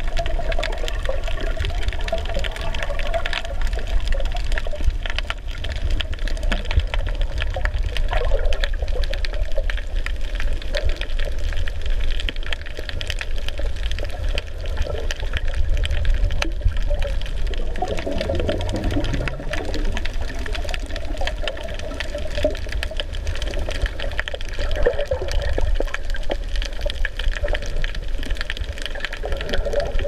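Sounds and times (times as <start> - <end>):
muffled underwater wash: 0.0 - 30.0
small underwater clicks: 0.0 - 30.0.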